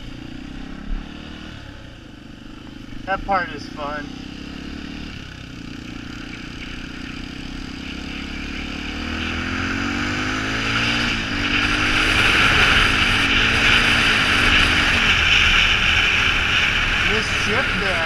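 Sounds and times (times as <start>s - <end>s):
dirt bike engine accelerating: 0.0s - 18.0s.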